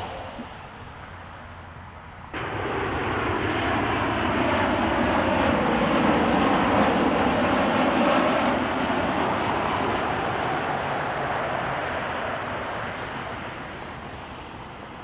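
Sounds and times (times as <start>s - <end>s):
jet engines passing close: 0.0s - 15.0s.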